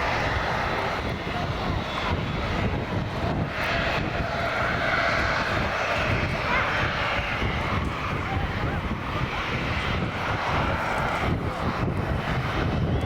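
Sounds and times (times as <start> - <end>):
jet engines passing overhead: 0.0 - 13.0.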